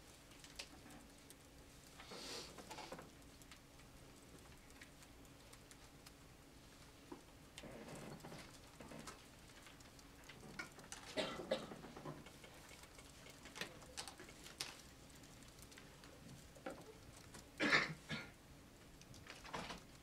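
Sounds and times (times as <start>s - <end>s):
faint clicks and taps: 0.0s - 17.6s, 18.8s - 20.0s.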